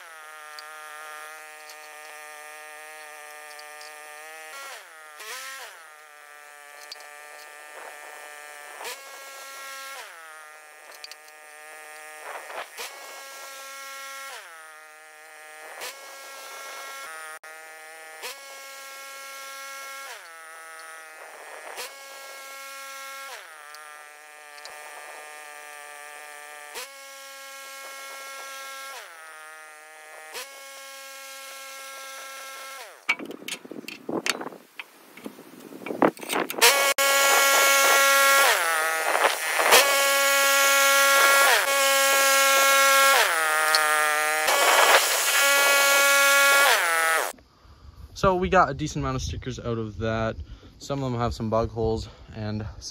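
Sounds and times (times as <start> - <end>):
sawmill engine and blade buzzing: 0.0 - 47.5.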